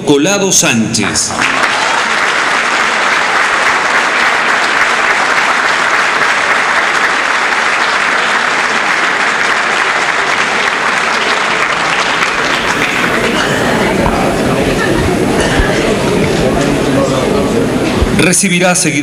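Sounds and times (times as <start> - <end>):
audience applauding: 1.3 - 18.0.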